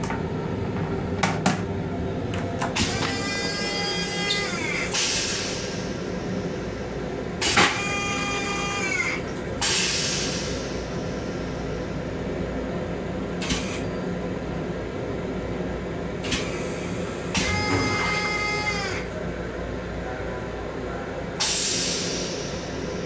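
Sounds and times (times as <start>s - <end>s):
railcar low rumble: 0.0s - 23.0s.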